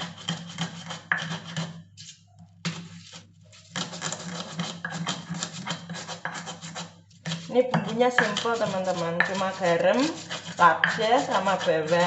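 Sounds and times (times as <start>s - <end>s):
pestle grinding in mortar: 0.0s - 1.8s, 2.7s - 12.0s.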